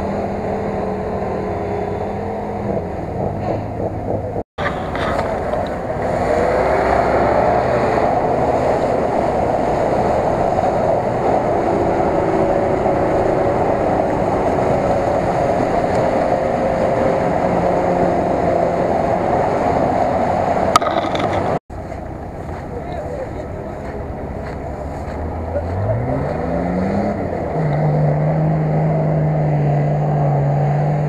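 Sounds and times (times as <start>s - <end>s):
engine revving under heavy load: 0.0s - 31.0s.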